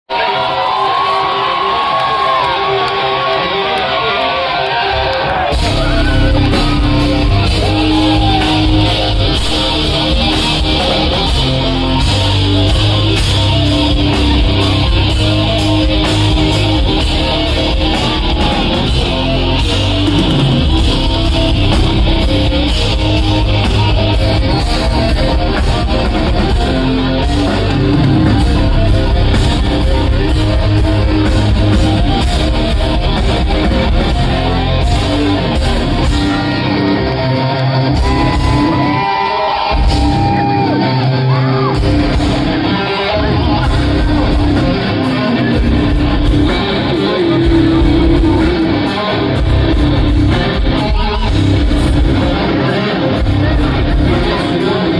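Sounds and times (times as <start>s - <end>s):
distorted electric guitars: 0.1s - 54.9s
drums: 0.1s - 54.9s
bass guitar: 2.2s - 54.9s.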